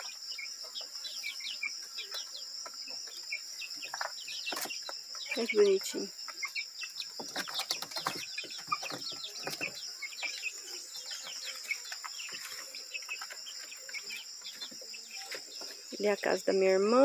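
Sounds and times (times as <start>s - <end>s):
chicks peeping: 0.0s - 17.0s
high insect drone: 0.0s - 17.0s.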